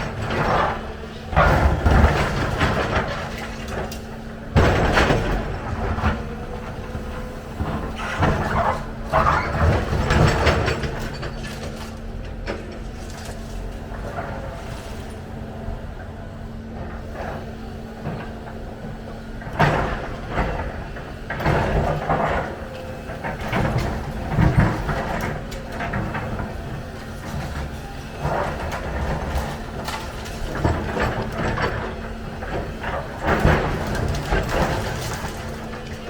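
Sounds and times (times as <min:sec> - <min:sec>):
excavator engine humming: 0:00.0 - 0:36.0.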